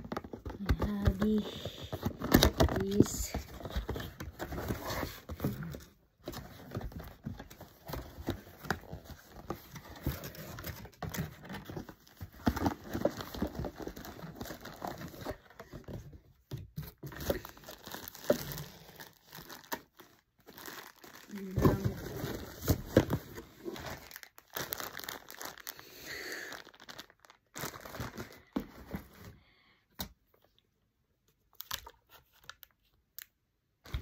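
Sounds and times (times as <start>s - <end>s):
paper packaging rustling: 0.0s - 16.2s, 16.8s - 29.4s.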